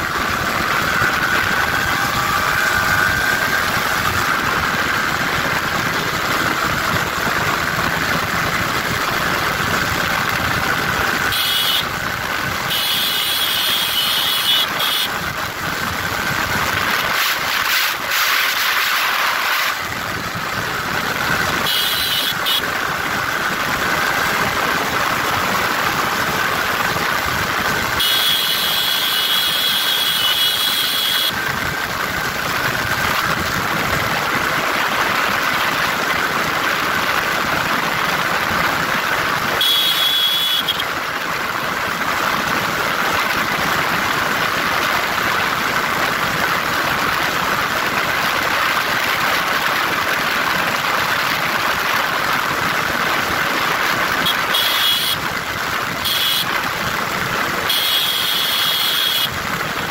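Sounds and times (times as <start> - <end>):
motorcycle engine at full throttle: 0.0 - 59.9.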